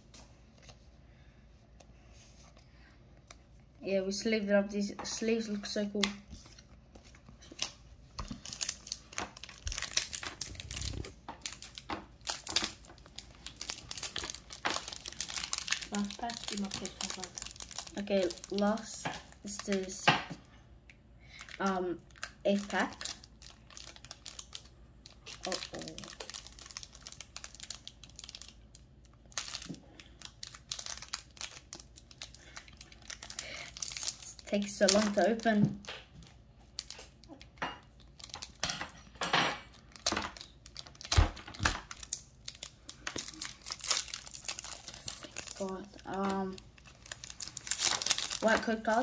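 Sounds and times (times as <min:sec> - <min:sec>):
foil wrapper crinkling: 0:05.4 - 0:20.1, 0:21.3 - 0:38.8, 0:39.7 - 0:49.0.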